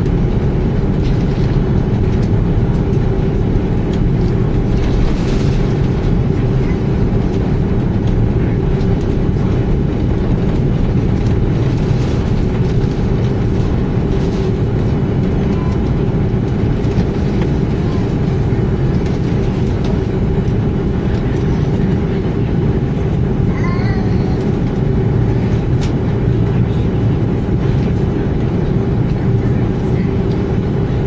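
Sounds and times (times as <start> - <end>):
jet engines low rumble: 0.0 - 31.0.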